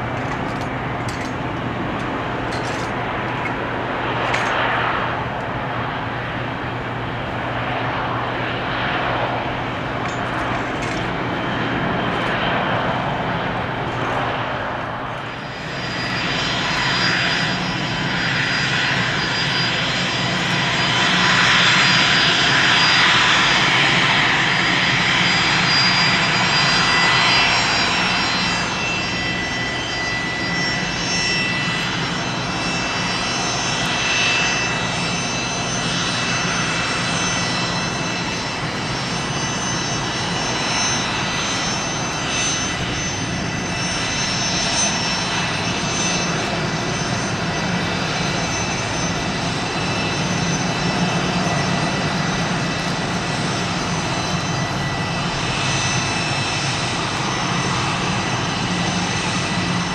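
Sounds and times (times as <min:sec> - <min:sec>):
jet taxiing with high whine: 0:00.0 - 0:59.9.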